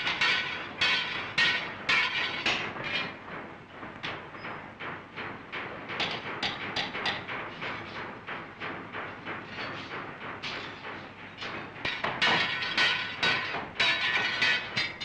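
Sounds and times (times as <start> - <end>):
hammers clanging on steel: 0.0 - 3.2, 5.9 - 15.0.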